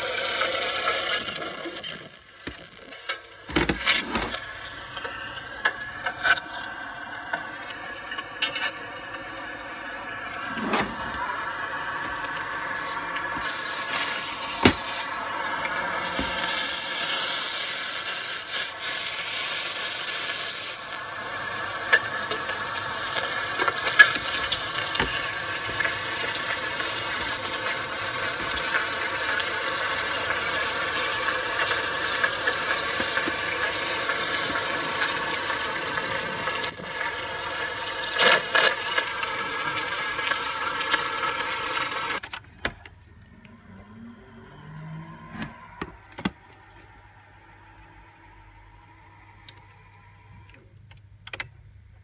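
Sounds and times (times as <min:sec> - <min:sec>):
video recorder hiss and whine: 0:00.0 - 0:43.3, 0:45.4 - 0:52.0.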